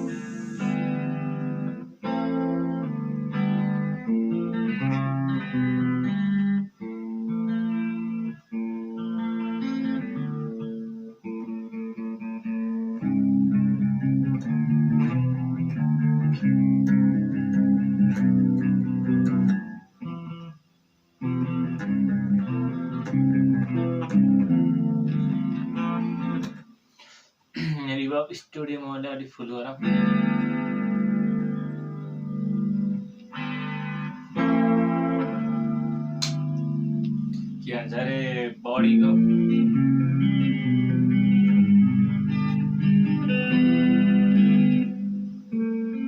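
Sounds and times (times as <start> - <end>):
electric guitar chords and notes: 0.0 - 27.8, 29.7 - 46.0.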